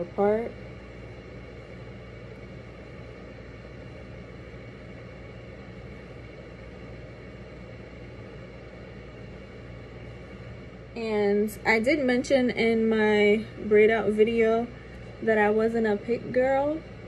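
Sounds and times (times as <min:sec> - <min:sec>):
room hum and hiss: 0:00.0 - 0:17.0.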